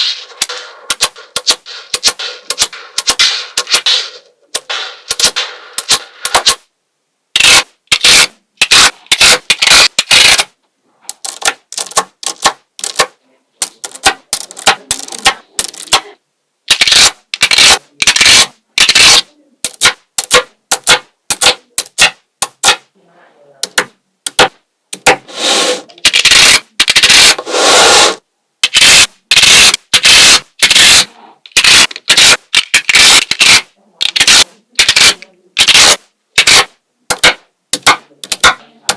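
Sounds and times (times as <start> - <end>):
magnetic balls clicking and rattling: 0.0 - 6.7, 7.4 - 22.9, 26.0 - 27.4, 28.6 - 38.9.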